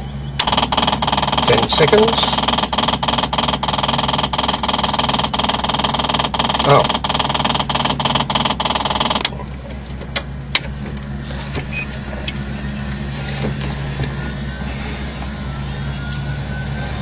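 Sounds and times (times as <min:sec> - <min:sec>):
low electrical hum: 0:00.0 - 0:17.0
loud buzzing noise: 0:00.4 - 0:09.3, 0:10.4 - 0:17.0.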